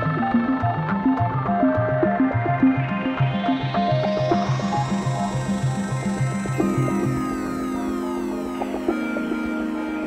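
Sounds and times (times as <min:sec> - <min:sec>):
background music with bass pattern: 0:00.0 - 0:10.0.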